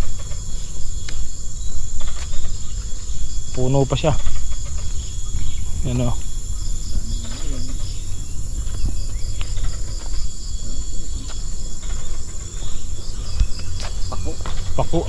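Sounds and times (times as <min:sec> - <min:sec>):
insects shrilling high pitch: 0:00.0 - 0:15.0
pulsing insect chirp: 0:00.0 - 0:15.0
wind rumble on microphone: 0:00.0 - 0:15.0.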